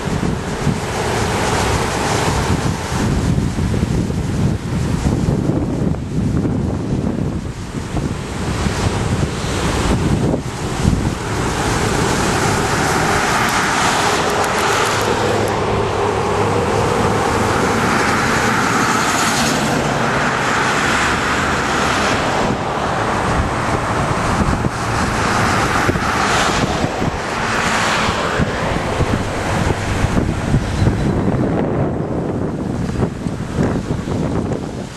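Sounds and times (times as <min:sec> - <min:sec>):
traffic and engine noise: 0:00.0 - 0:34.9
wind buffeting microphone: 0:00.0 - 0:34.9.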